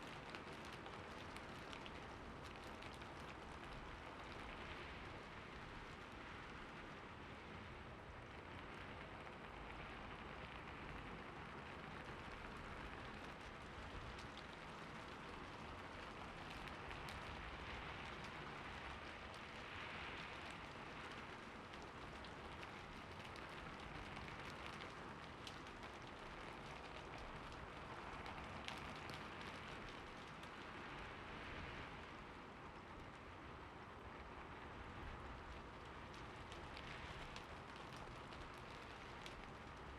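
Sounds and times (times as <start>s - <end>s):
rain falling: 0.0s - 39.9s
raindrops pattering on surface: 0.0s - 39.9s.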